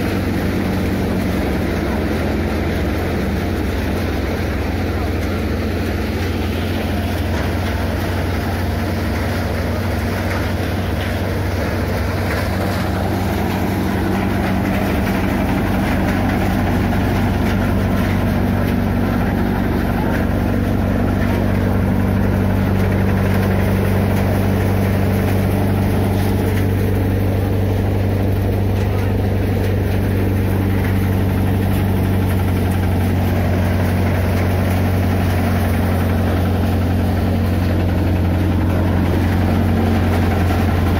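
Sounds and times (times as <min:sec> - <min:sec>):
tractor engine and thresher humming: 0:00.0 - 0:40.9.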